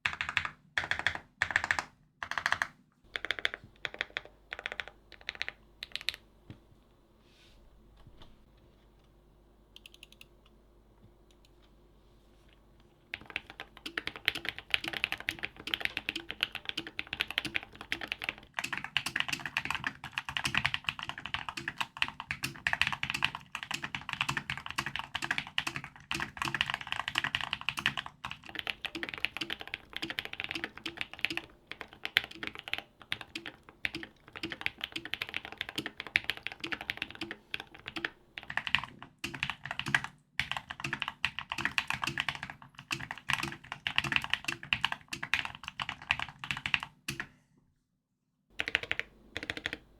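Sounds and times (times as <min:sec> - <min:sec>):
mechanical keyboard typing: 0:00.0 - 0:06.2, 0:09.8 - 0:10.3, 0:13.1 - 0:47.3, 0:48.6 - 0:49.9.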